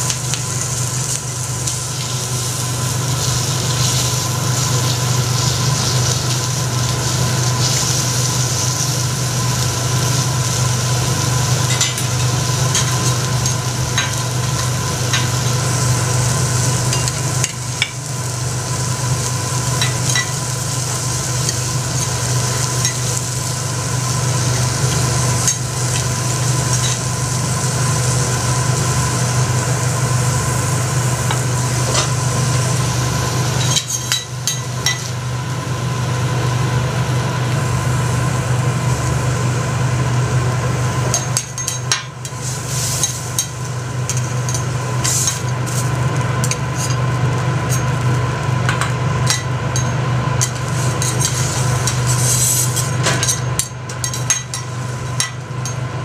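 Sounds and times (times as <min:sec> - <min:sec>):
food sizzling on griddle: 0:00.0 - 0:56.0
steady low hum: 0:00.0 - 0:56.0.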